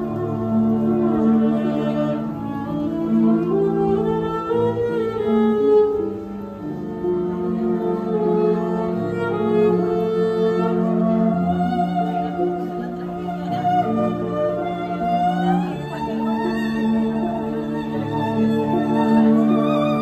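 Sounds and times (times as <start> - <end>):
cello bowed slow tune: 0.0 - 20.0.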